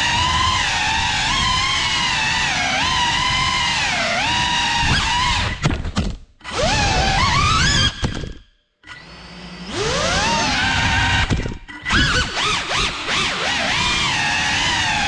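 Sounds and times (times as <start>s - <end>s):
drone motors whining: 0.0s - 5.6s, 6.4s - 15.0s.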